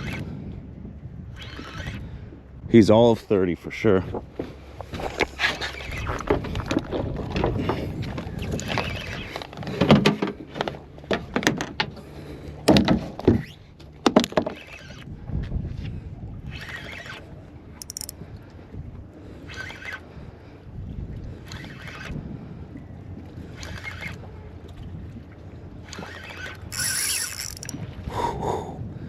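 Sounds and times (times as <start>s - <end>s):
wind buffeting microphone: 0.0s - 13.7s, 14.8s - 29.0s
water sloshing against boat: 0.0s - 29.0s.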